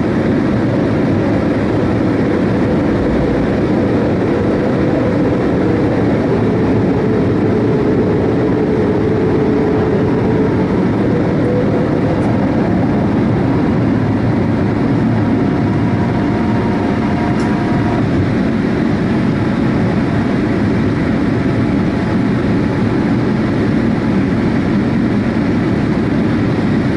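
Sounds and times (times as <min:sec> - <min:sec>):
jet engines rumbling: 0:00.0 - 0:26.9.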